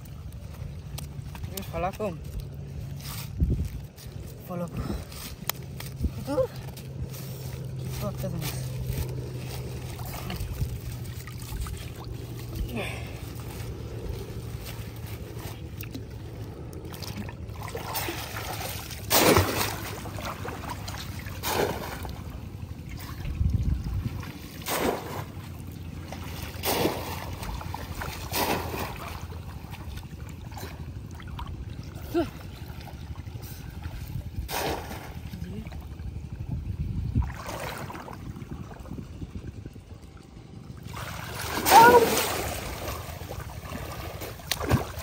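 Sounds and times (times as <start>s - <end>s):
water splashing: 5.5s - 36.4s, 37.0s - 45.0s.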